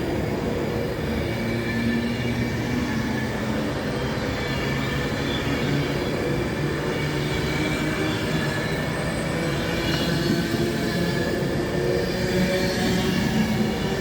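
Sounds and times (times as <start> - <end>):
electric train rumbling: 0.0 - 14.0
train wheels squealing: 0.9 - 14.0.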